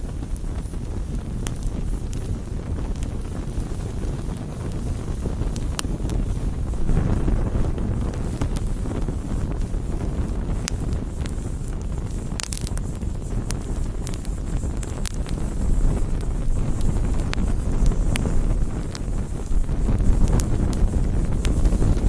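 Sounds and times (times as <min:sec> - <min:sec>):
campfire flames rushing: 0:00.0 - 0:22.0
fire crackles and pops: 0:00.0 - 0:22.0.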